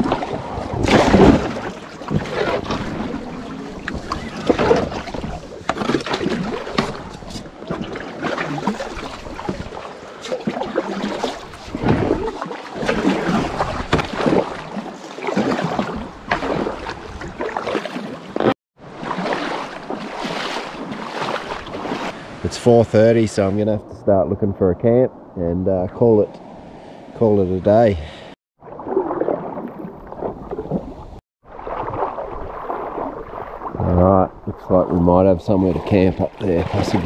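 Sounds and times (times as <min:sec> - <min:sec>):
river water splashing: 0:00.0 - 0:22.7, 0:28.1 - 0:37.0.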